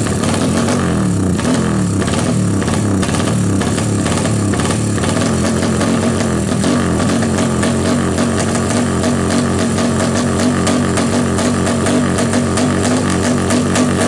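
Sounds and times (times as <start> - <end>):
motorcycle engine wavering note: 0.0 - 14.0.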